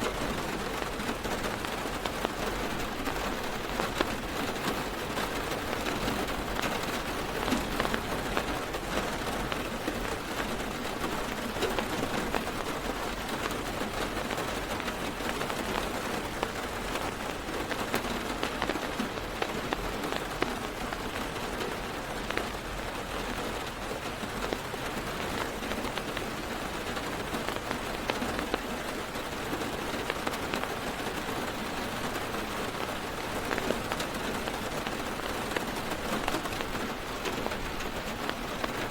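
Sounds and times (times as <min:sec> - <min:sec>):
heavy rain drumming on car roof: 0:00.0 - 0:38.9.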